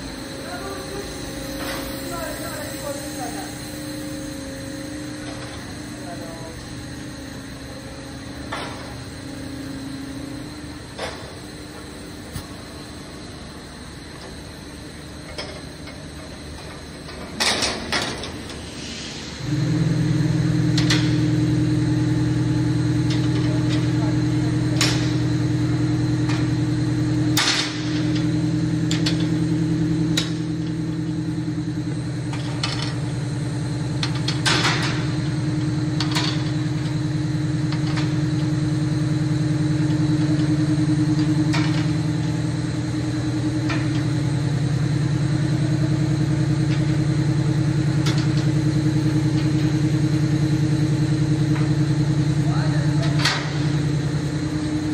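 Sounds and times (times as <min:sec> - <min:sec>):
machinery humming: 0:00.0 - 0:54.9.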